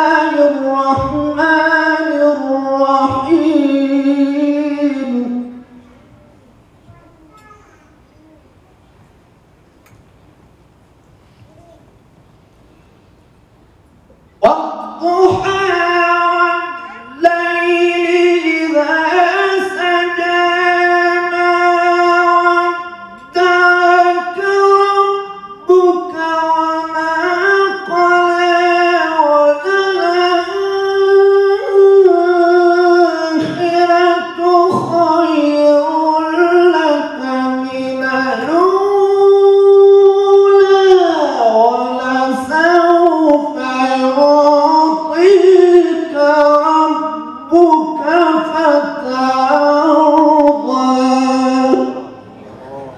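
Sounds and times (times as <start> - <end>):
man reciting melodically: 0.0 - 6.1, 14.3 - 52.9.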